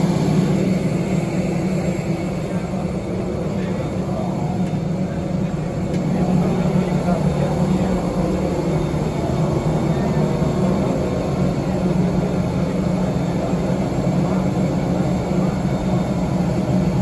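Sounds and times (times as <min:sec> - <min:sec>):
aircraft and ground equipment drone: 0:00.0 - 0:17.0.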